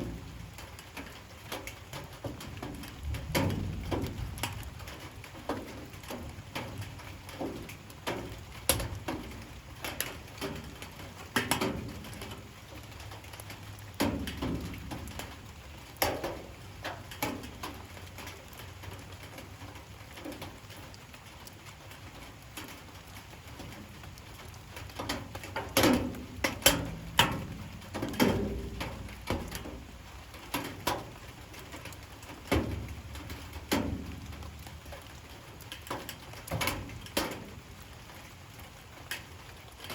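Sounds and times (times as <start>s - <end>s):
faint rain patter: 0.0s - 39.9s
rain drips tapping: 0.0s - 39.9s.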